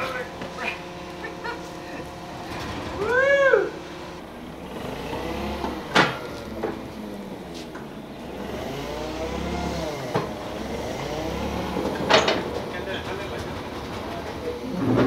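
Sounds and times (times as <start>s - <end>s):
forklift engine revving: 0.0s - 15.0s.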